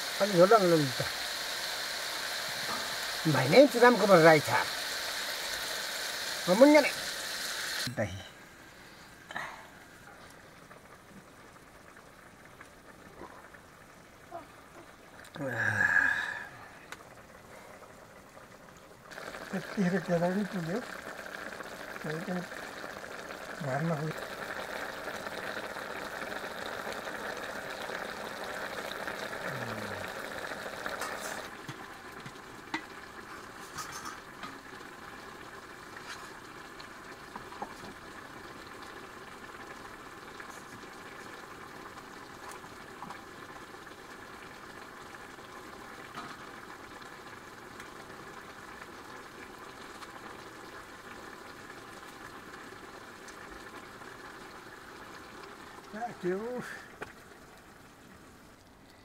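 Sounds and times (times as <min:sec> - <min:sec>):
curry bubbling in a wok: 0:00.0 - 0:59.0.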